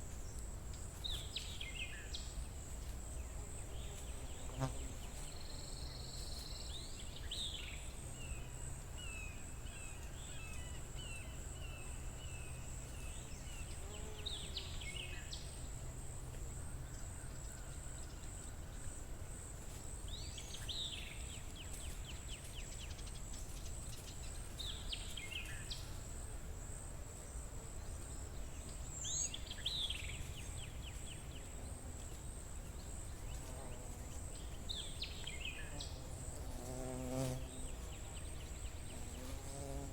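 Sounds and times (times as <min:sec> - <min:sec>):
songbird singing: 0:00.0 - 0:19.0, 0:19.9 - 0:26.2, 0:27.3 - 0:39.9.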